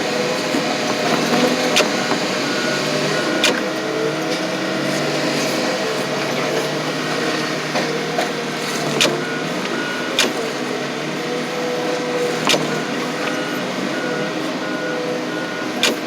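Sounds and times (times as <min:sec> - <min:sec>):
crushing machine engine running: 0:00.0 - 0:16.0.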